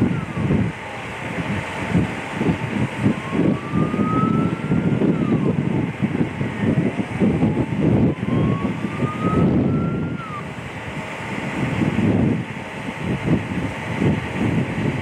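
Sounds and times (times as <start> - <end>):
fire engine siren wailing: 0.0 - 15.0
gusty low rumble: 0.0 - 15.0.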